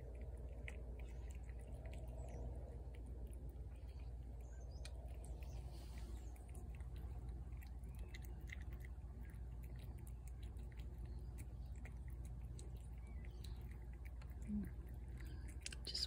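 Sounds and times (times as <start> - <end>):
cat chewing food: 0.0 - 16.0.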